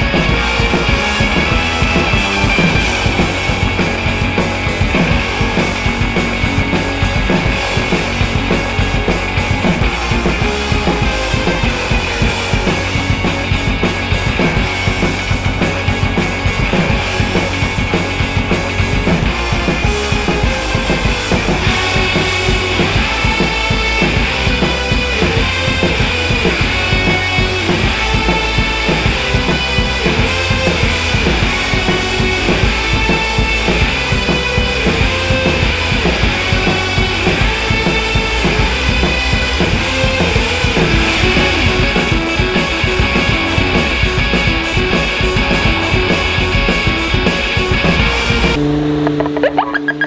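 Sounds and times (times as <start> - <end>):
rock music: 0.0 - 50.0.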